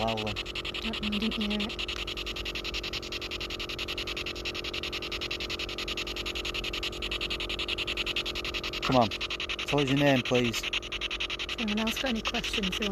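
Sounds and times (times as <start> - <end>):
pulsing electronic static: 0.0 - 12.9
steady electronic hum: 0.0 - 12.9.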